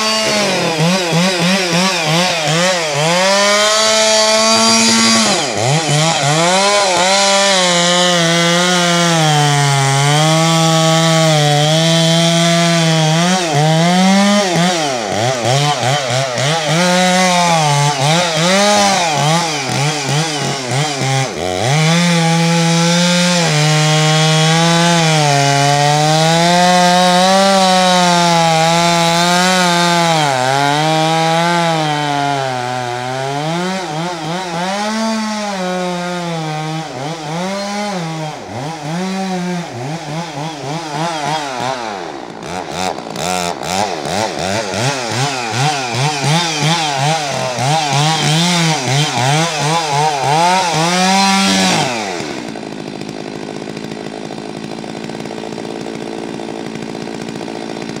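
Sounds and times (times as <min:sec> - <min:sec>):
chainsaw cutting tree: 0:00.0 - 0:58.0.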